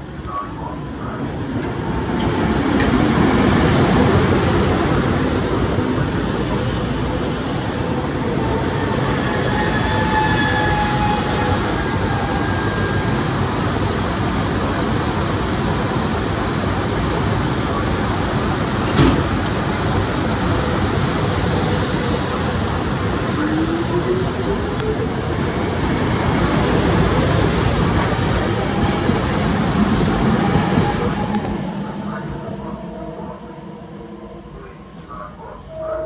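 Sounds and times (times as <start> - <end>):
train wheels rumbling on rail: 1.0 - 36.0.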